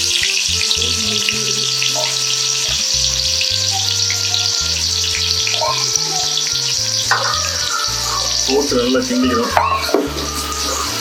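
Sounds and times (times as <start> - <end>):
background music: 0.0 - 11.0
onions sizzling in hot oil: 0.0 - 11.0.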